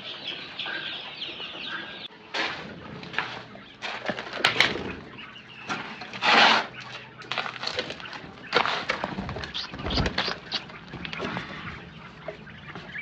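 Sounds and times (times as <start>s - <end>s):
chickens clucking: 0.0s - 13.0s
knocks and scuffling: 2.2s - 13.0s.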